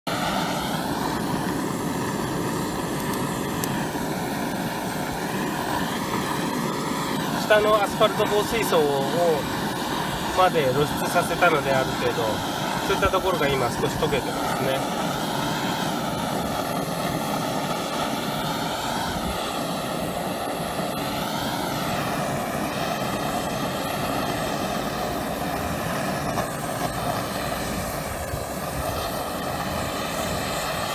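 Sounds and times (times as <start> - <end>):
gas torch flame rushing: 0.1 - 30.9.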